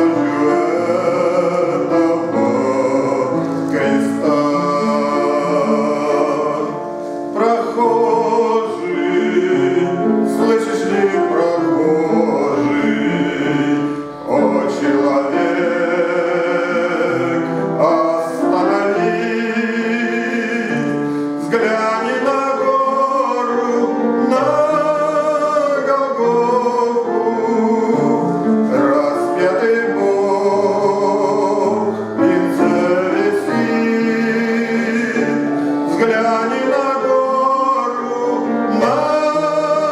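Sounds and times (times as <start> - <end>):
instrumental accompaniment: 0.0 - 39.9
man singing a hymn: 0.0 - 39.9.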